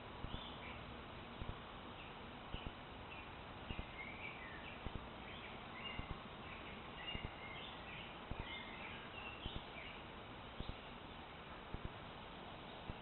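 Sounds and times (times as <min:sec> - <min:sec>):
steady background hiss: 0:00.0 - 0:13.0
woodland birds chirping: 0:00.2 - 0:11.5.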